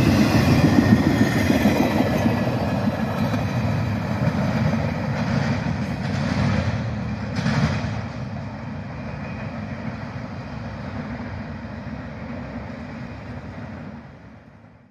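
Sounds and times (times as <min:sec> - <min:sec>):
train wheels rumbling on rails: 0:00.0 - 0:14.9.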